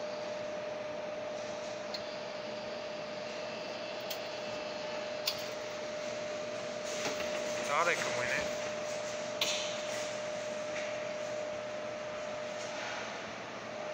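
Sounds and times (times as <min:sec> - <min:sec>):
claw machine hum: 0:00.0 - 0:12.7.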